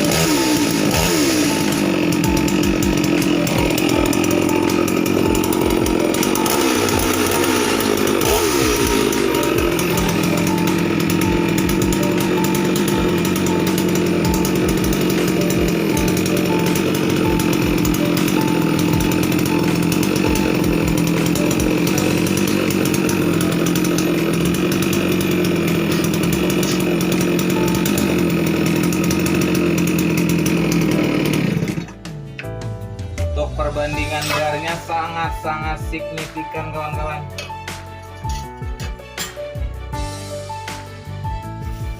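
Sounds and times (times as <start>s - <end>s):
chainsaw two-stroke engine running: 0.0s - 41.9s.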